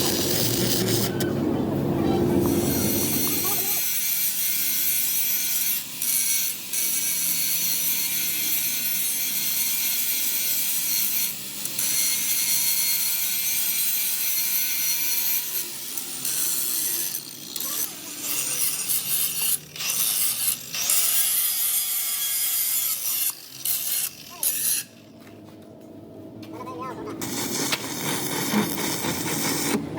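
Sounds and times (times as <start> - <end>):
power tool grinding metal: 0.0 - 25.2, 27.2 - 29.9.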